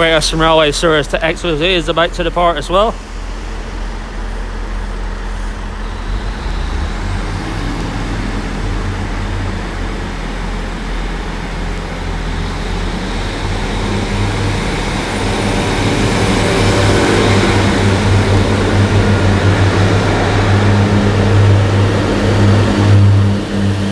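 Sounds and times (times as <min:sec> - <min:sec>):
diesel train engines droning: 0:00.0 - 0:23.9
thin high whine: 0:00.0 - 0:23.9.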